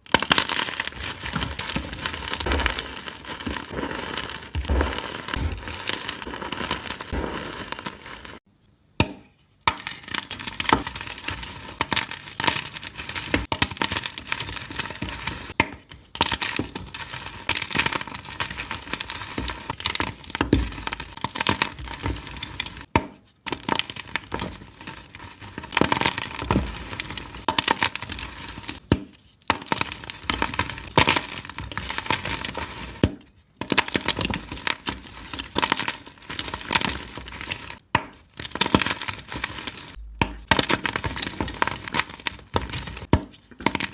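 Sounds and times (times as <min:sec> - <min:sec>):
chalk blocks being crushed: 0:00.1 - 0:08.4, 0:09.7 - 0:43.9.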